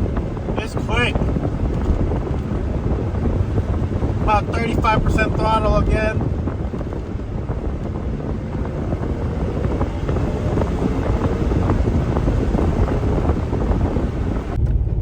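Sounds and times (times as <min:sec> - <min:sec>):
car engine rumble: 0:00.0 - 0:15.0
road noise: 0:00.0 - 0:15.0
wind noise on microphone: 0:00.0 - 0:15.0.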